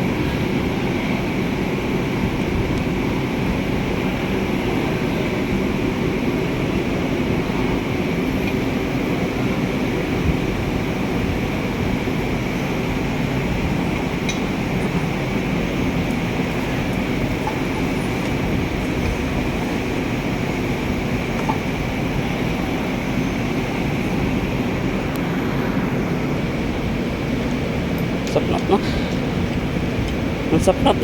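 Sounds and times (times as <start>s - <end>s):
steady rumbling noise: 0.0s - 31.0s.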